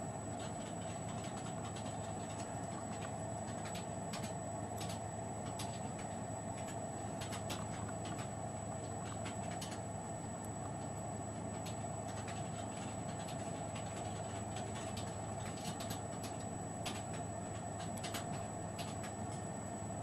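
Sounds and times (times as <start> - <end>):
steady hum and hiss: 0.0 - 20.0.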